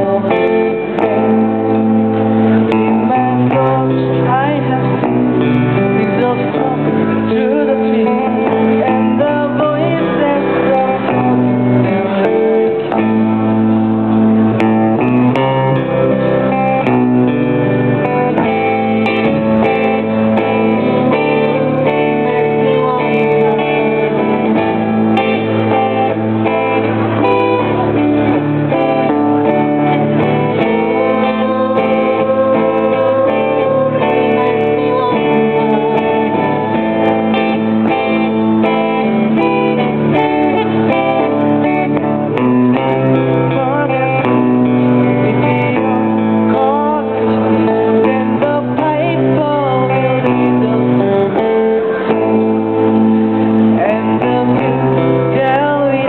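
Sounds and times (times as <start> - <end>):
acoustic guitar strumming: 0.0 - 56.0
person singing: 0.0 - 56.0.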